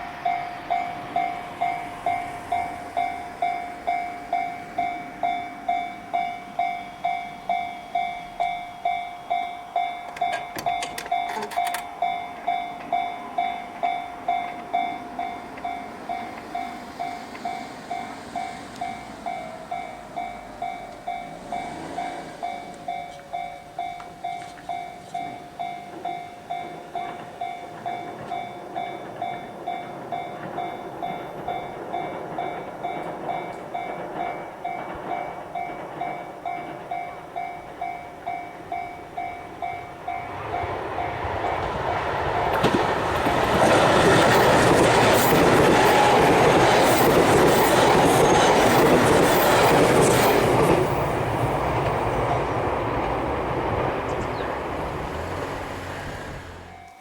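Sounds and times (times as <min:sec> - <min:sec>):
level-crossing warning bell ringing: 0:00.0 - 0:57.0
train wheels clattering past: 0:00.0 - 0:57.0.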